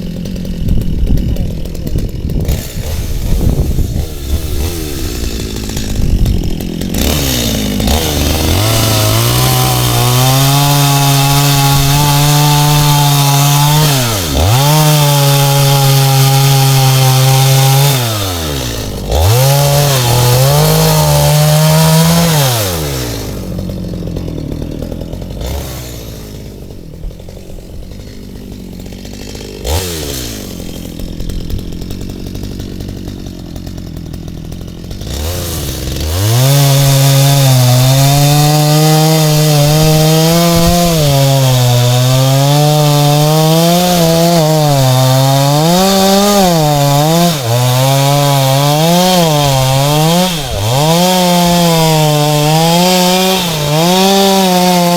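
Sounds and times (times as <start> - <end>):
chainsaw revving and idling: 0.0 - 54.9.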